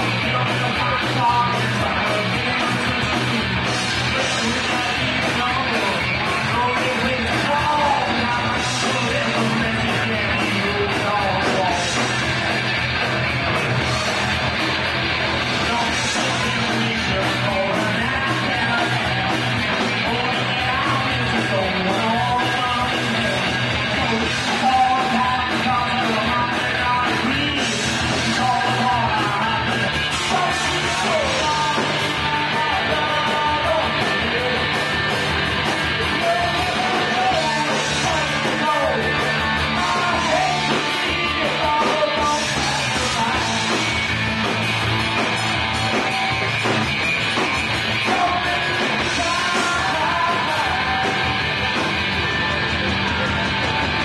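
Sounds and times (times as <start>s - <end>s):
person singing: 0.0s - 12.7s, 15.4s - 44.6s, 45.2s - 54.0s
live rock band playing: 0.0s - 54.0s.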